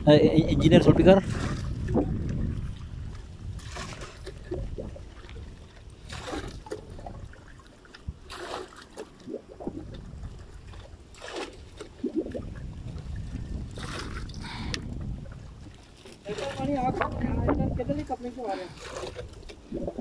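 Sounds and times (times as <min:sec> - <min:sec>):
wind on microphone: 0:00.0 - 0:08.4, 0:09.3 - 0:20.0.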